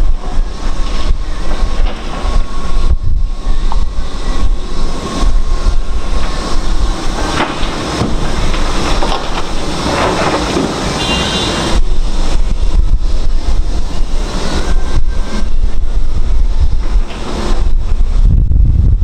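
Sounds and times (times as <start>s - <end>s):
demolition site noise: 0.0s - 19.0s
wind buffeting microphone: 0.0s - 19.0s.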